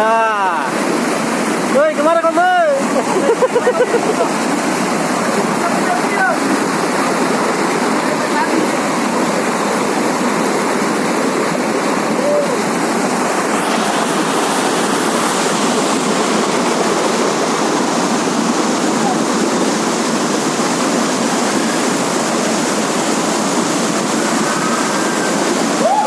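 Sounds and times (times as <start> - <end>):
loud rushing water: 0.0 - 26.0.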